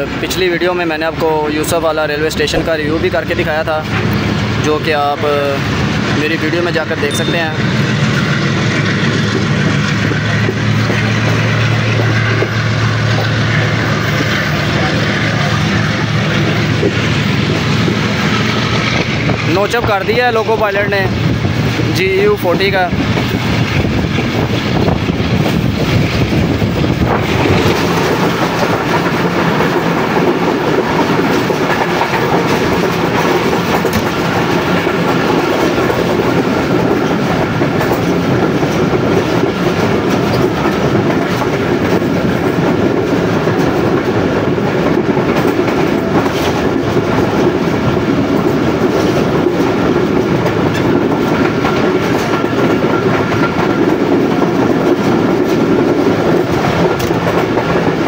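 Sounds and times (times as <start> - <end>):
train wheels rumbling on track: 0.0 - 58.0
wheels clattering over rail joints: 0.0 - 58.0.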